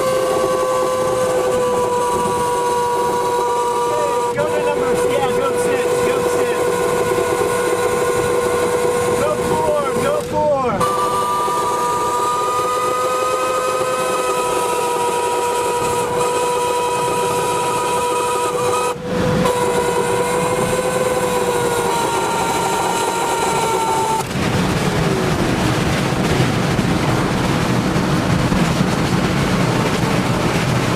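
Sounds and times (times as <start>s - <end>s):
wind noise: 0.0s - 5.7s, 6.6s - 30.9s
warning siren: 0.0s - 30.9s.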